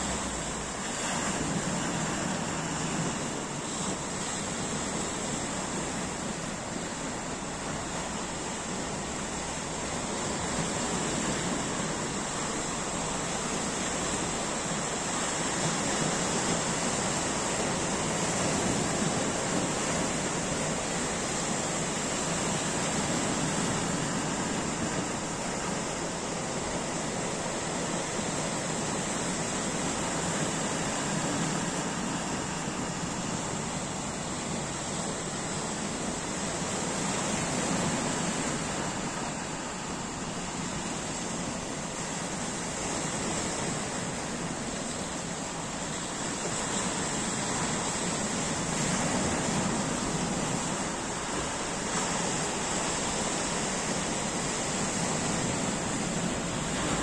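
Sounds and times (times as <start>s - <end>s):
small waves breaking on rocks: 0.0s - 57.0s.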